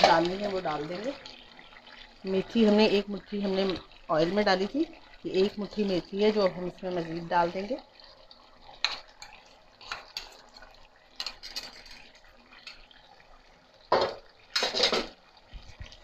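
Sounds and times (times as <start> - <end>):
food sizzling in hot oil: 0.0 - 16.0
oil popping and crackling: 0.0 - 16.0.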